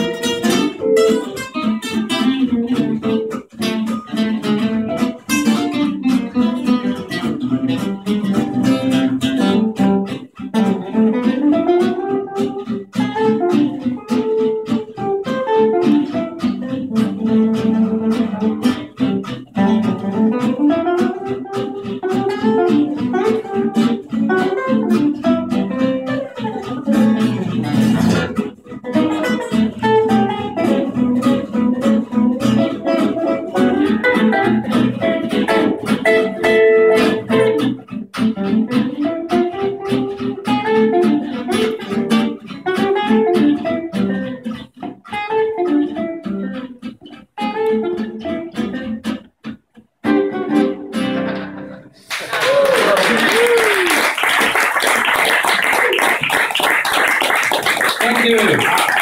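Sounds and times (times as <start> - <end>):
acoustic guitar lead line: 0.0 - 59.0
strummed rhythm guitar chords: 0.0 - 59.0.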